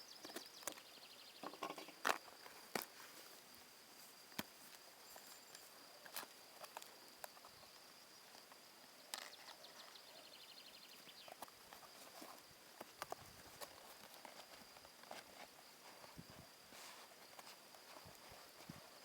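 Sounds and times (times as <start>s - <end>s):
faint high-pitched whine: 0.0s - 19.0s.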